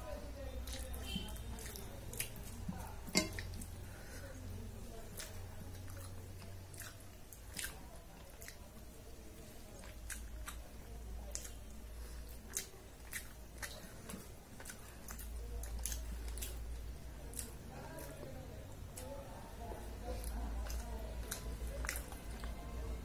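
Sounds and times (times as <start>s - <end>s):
person chewing: 0.6s - 19.2s, 20.0s - 22.9s.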